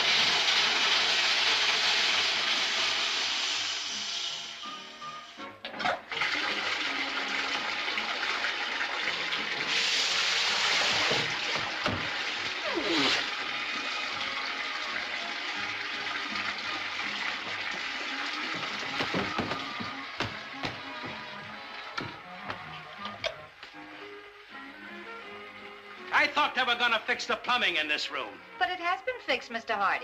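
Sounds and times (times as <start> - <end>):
water rushing in plumbing: 0.0 - 4.9, 5.7 - 26.1.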